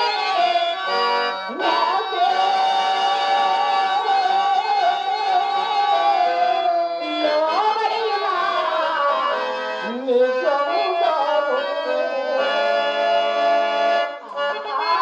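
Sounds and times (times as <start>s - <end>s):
harmonium chords: 0.0s - 15.0s
tabla: 1.6s - 15.0s.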